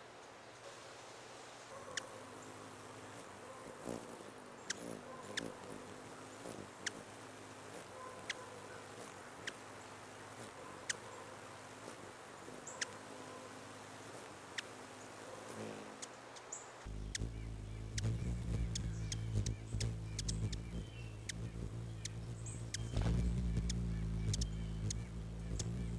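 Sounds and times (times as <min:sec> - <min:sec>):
hummingbird wings humming: 0:01.0 - 0:25.9
hummingbird chips: 0:01.9 - 0:25.9.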